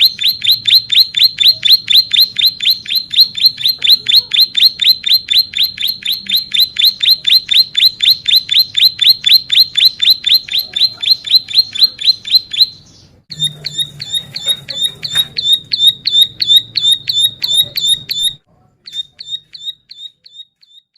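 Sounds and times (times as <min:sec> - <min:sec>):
bird singing rapid high notes: 0:00.0 - 0:20.9.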